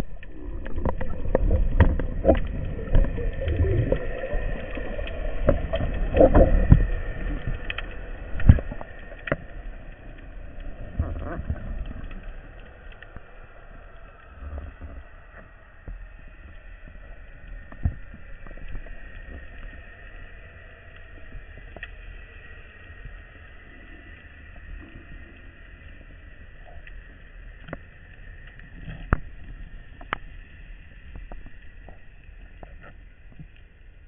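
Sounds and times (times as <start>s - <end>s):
muffled underwater rumble: 0.0s - 34.0s.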